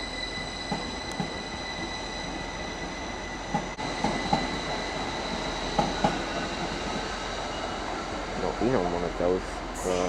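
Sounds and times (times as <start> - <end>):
electric train whine and rumble: 0.0 - 10.0.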